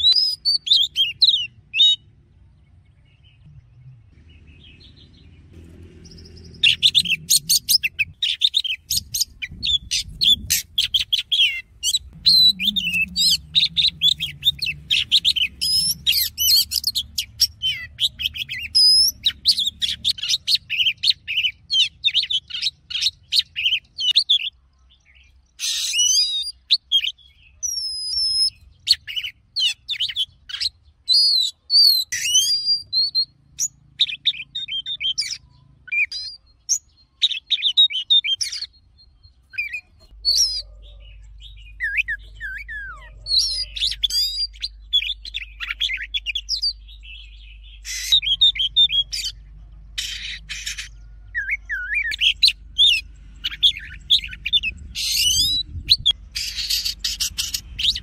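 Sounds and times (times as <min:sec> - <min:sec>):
songbird singing whistles and trills: 0:00.0 - 0:02.1, 0:06.1 - 0:24.6, 0:25.2 - 0:49.4, 0:50.0 - 0:58.0.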